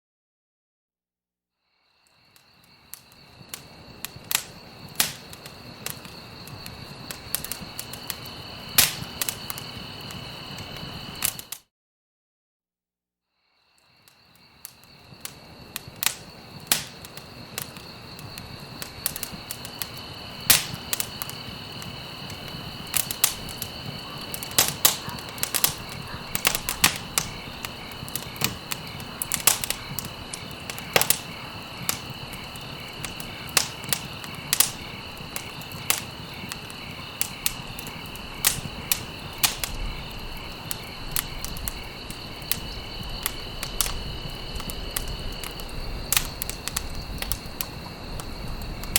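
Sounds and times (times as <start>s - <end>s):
wood fire crackling: 2.2s - 11.6s, 14.0s - 48.9s.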